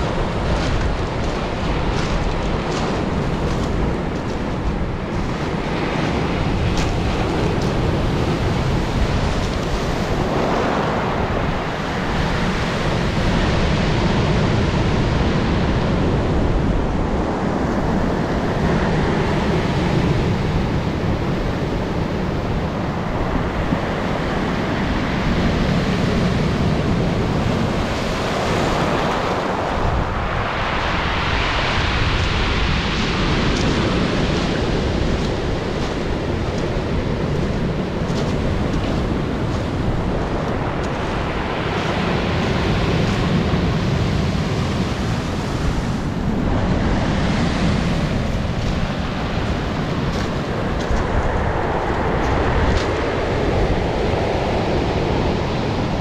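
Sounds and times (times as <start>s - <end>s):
surf breaking on pebble beach: 0.0s - 15.0s, 23.9s - 55.4s.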